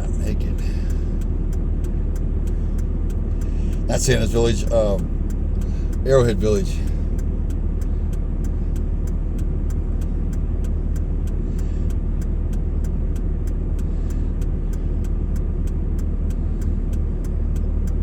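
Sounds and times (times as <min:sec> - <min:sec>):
engine and road rumble: 0:00.0 - 0:18.0
faint light ticking: 0:00.0 - 0:18.0.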